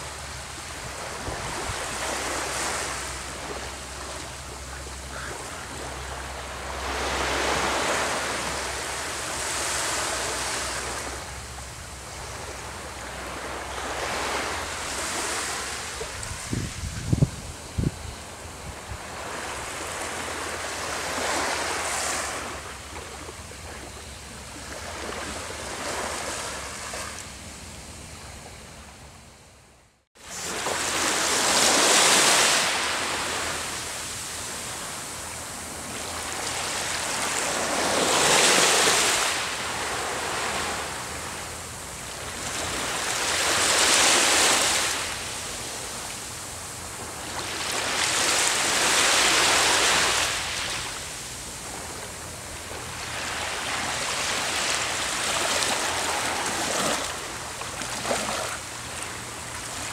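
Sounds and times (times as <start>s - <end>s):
waves washing onto beach: 0.0s - 27.3s, 30.2s - 59.9s.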